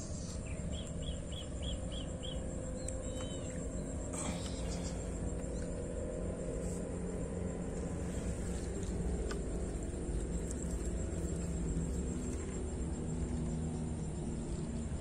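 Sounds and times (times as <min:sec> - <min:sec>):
low rumble with faint hum: 0:00.0 - 0:15.0.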